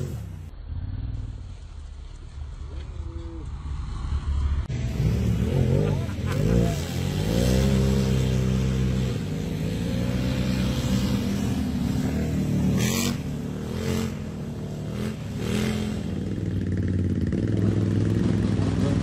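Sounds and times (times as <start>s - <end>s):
engine revving: 0.0s - 1.5s, 3.5s - 19.0s.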